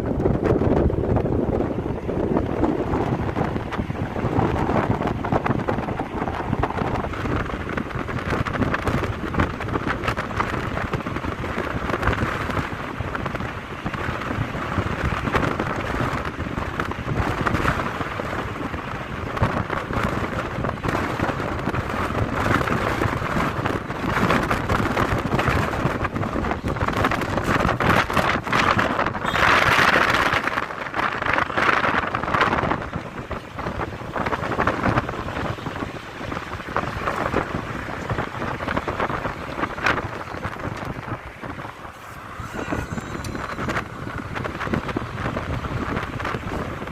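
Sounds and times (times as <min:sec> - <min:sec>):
vehicle road rumble: 0:00.0 - 0:46.9
wind buffeting microphone: 0:00.0 - 0:46.9.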